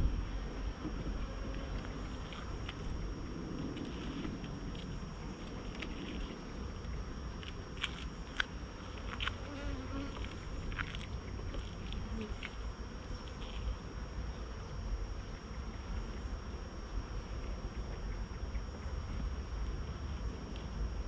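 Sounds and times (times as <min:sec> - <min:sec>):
bees buzzing: 0:00.0 - 0:03.2, 0:04.6 - 0:21.0.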